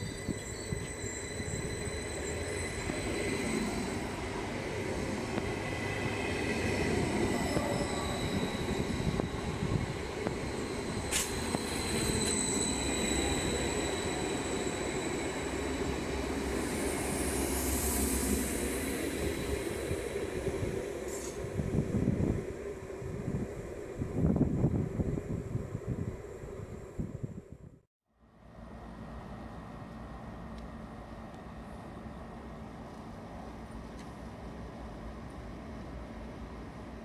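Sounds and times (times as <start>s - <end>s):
electric train rumbling and whining: 0.0s - 27.8s, 28.4s - 37.0s.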